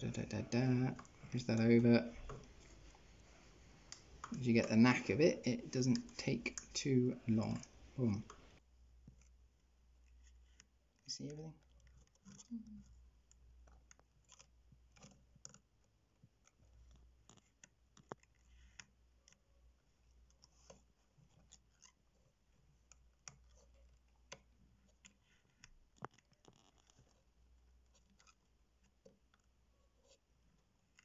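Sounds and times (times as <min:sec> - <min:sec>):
small clicks and scratches: 0:00.0 - 0:31.0.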